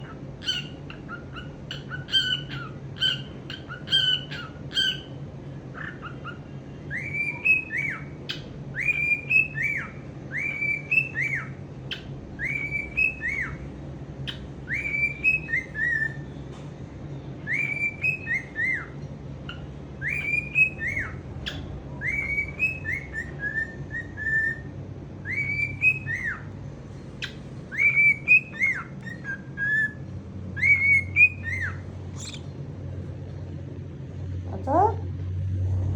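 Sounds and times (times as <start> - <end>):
cockatiel chirping and whistling: 0.0 - 13.6, 14.2 - 16.2, 17.4 - 26.5, 27.2 - 30.0, 30.6 - 32.5.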